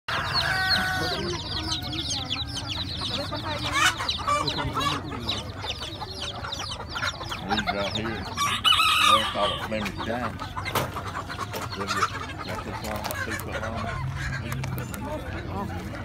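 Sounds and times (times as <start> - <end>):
chicks peeping: 0.1 - 16.0.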